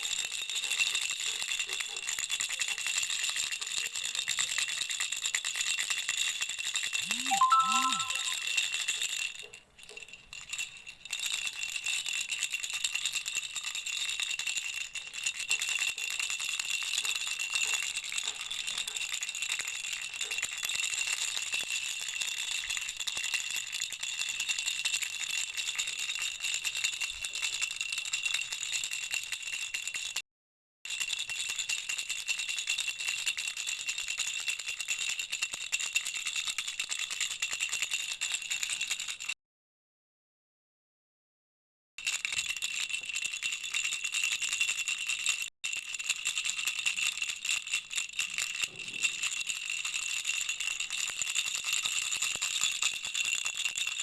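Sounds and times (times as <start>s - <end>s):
baby rattle shaking: 0.0s - 30.2s, 30.9s - 39.4s, 42.0s - 54.0s.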